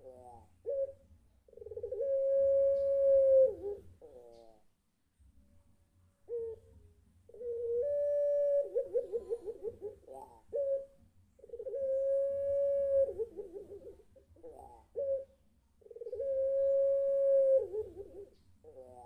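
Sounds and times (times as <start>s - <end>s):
dove cooing: 0.0s - 4.7s, 6.3s - 19.0s.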